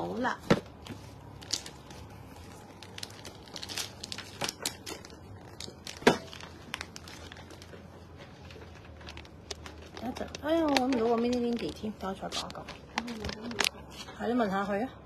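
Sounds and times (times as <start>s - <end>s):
plastic wrap crinkling: 0.7s - 14.4s.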